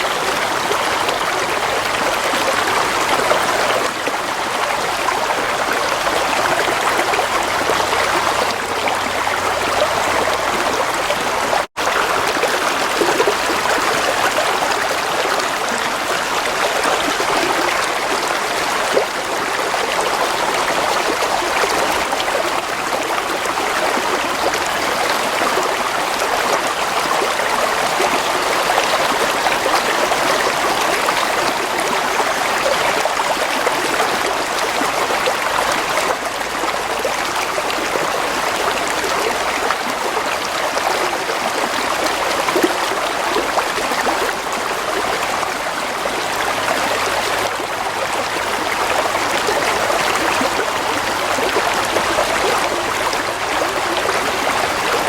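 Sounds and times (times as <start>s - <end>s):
stream of water flowing: 0.0s - 55.0s.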